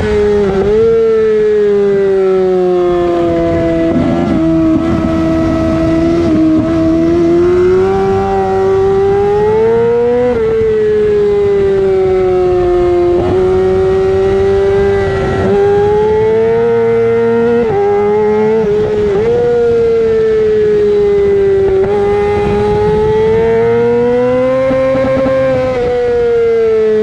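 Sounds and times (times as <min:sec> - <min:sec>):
motorcycle engine revving high: 0:00.0 - 0:27.0.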